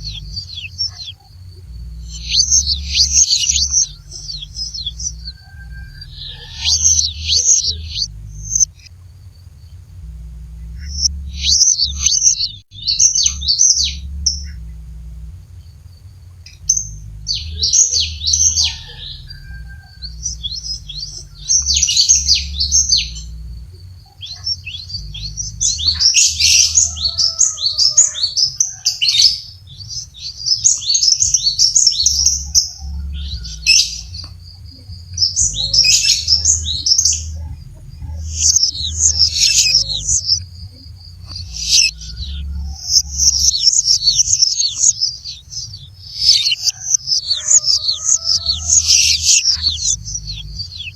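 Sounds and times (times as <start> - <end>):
bird chirping rapidly: 0.0 - 50.9
steady low hum: 0.0 - 50.9.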